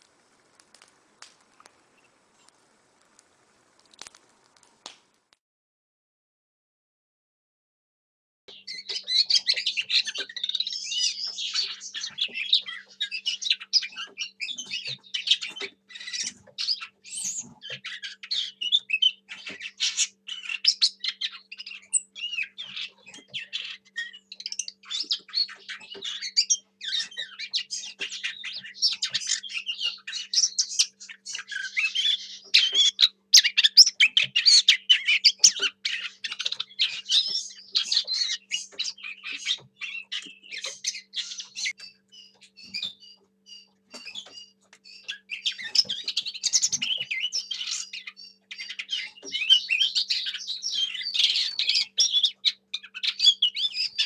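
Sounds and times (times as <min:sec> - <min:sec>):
bird warbling song: 0:00.0 - 0:04.5, 0:08.5 - 0:54.0.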